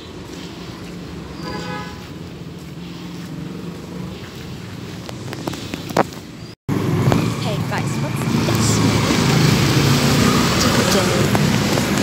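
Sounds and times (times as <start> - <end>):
low rumble of vehicle engines: 0.0 - 12.0.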